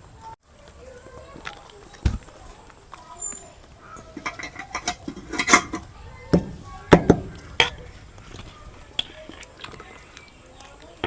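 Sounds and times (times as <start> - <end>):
crunchy chewing: 0.5 - 11.0.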